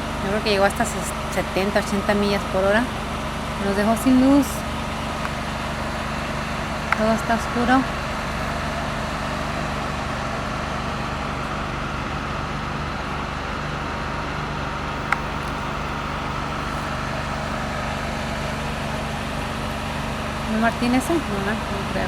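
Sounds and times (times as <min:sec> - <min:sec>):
low machinery hum: 0:00.0 - 0:22.0.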